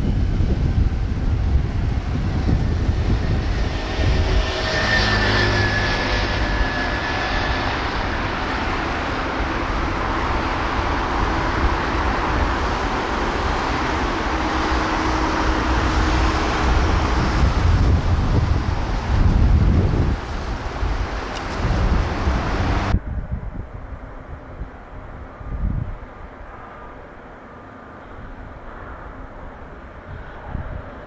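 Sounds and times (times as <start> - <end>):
wind on microphone: 0.0 - 27.1, 28.1 - 31.0
distant machinery drone: 0.0 - 31.0.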